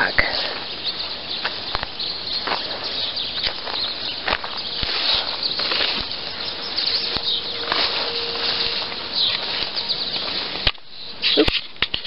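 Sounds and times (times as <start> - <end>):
footsteps swishing through dry grass: 0.6 - 12.0.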